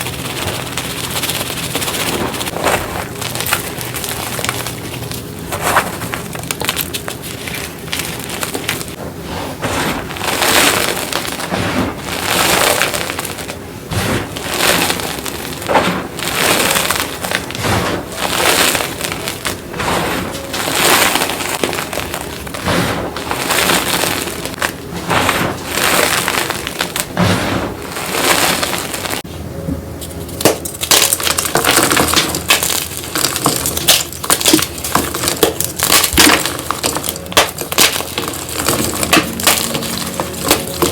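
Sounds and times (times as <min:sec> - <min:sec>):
chalk crumbling and crackling: 0:00.0 - 0:29.3, 0:30.0 - 0:40.9.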